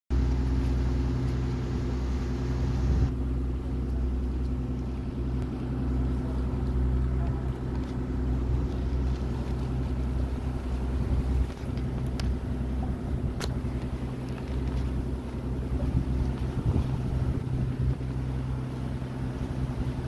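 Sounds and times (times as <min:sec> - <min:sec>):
boat engine drone: 0:00.1 - 0:20.0.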